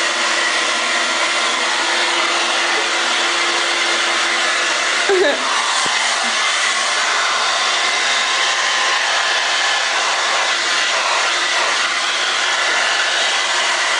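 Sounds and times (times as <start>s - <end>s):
electric blower rushing air: 0.0s - 13.9s.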